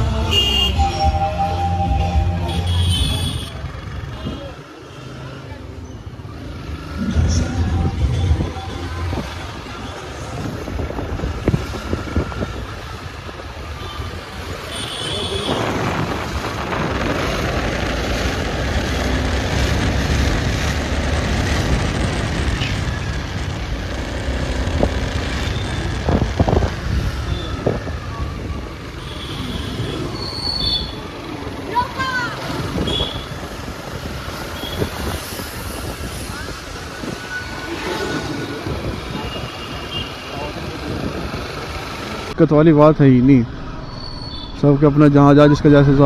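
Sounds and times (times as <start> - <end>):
motorcycle running: 1.8 - 44.4.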